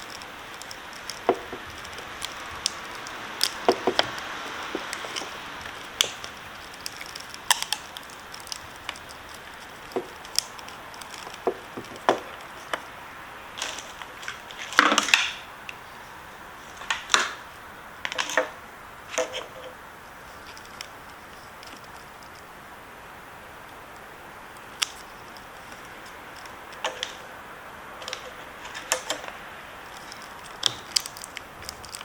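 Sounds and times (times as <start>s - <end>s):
hands handling wiring connector: 0.0s - 15.8s, 16.6s - 19.8s, 24.5s - 27.2s, 28.0s - 32.0s
scraping rustle: 0.0s - 22.5s, 23.6s - 32.0s.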